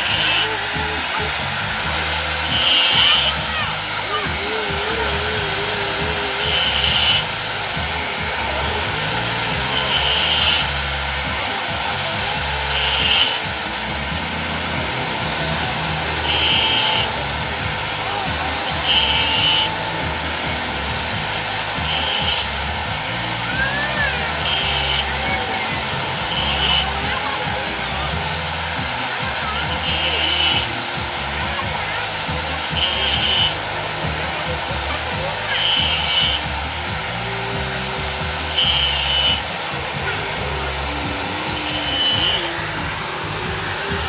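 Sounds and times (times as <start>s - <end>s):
angle grinder whining: 0.0s - 44.0s.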